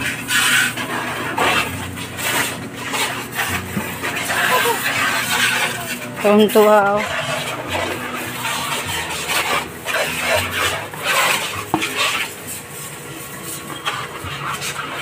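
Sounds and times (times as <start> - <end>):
plastic basin scraping on concrete: 0.0 - 15.0.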